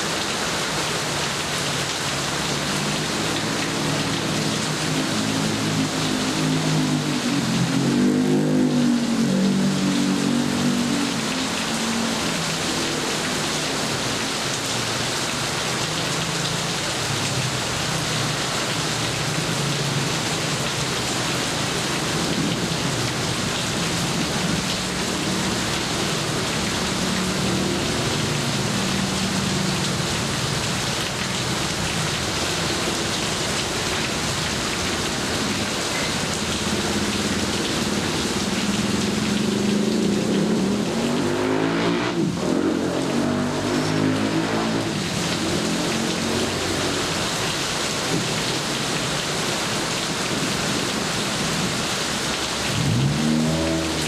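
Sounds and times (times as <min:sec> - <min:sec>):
heavy rain on surfaces: 0:00.0 - 0:54.0.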